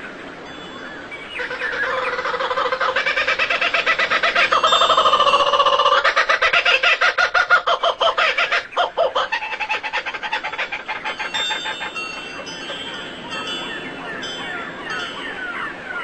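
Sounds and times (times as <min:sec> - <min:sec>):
bird chattering: 0:01.4 - 0:15.4.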